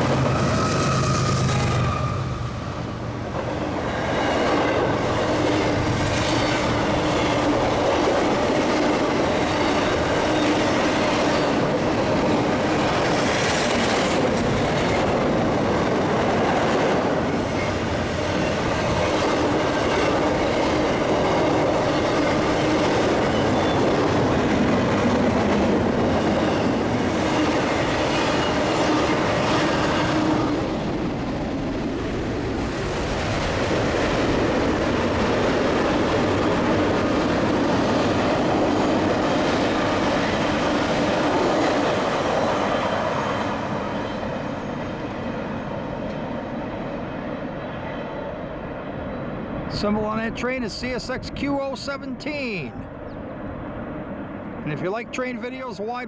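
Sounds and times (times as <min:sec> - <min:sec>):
freight train cars rolling past: 0:00.0 - 0:56.0.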